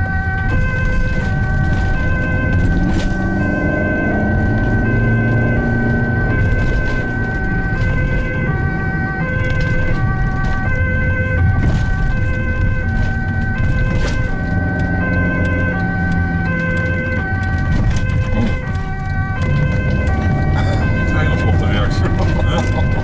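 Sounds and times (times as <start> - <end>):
engine and road rumble: 0.0 - 23.0
two-tone ambulance siren: 0.0 - 23.0.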